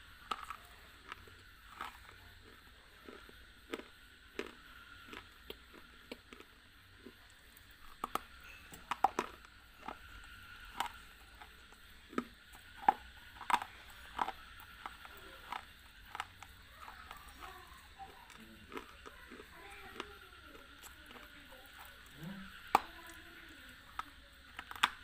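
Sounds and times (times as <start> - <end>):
biting and crunching hard bar: 0.2 - 20.1, 24.0 - 25.0.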